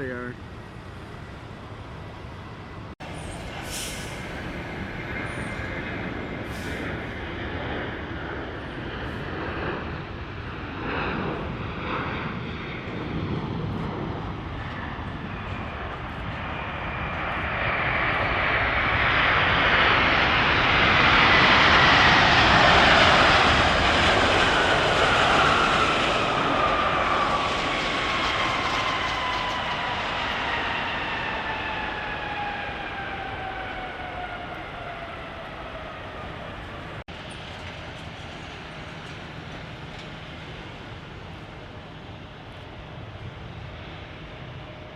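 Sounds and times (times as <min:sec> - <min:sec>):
jet airliner passing overhead: 0:00.0 - 0:44.9.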